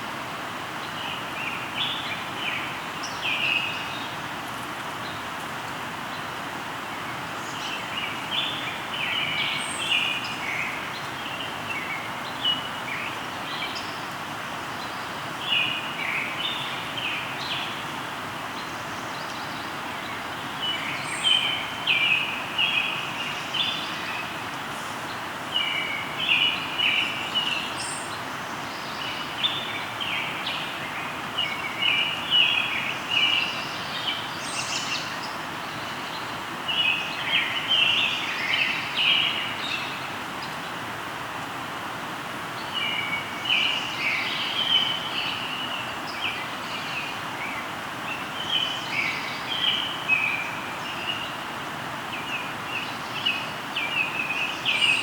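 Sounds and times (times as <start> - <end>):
river flowing: 0.0 - 55.0
songbirds chirping: 0.0 - 55.0.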